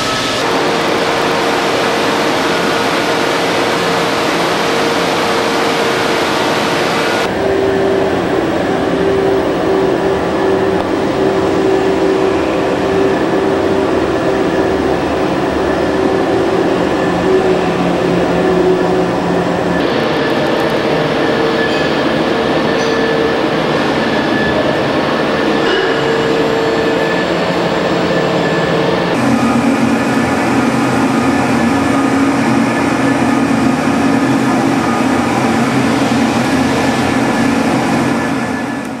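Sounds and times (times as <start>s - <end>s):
machine drone with pitched tones: 0.0s - 39.0s.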